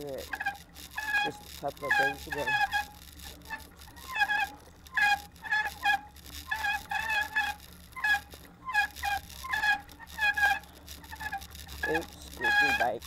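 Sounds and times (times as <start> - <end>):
bicycle squeaking: 0.0 - 13.0.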